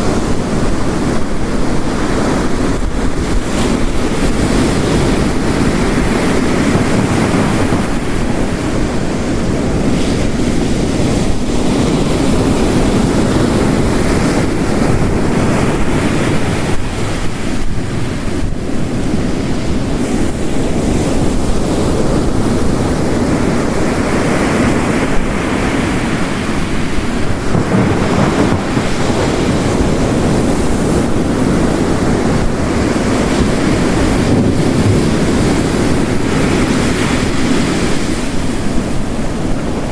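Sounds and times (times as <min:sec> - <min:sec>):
heavy rain: 0:00.0 - 0:39.9
ocean waves crashing: 0:00.0 - 0:39.9.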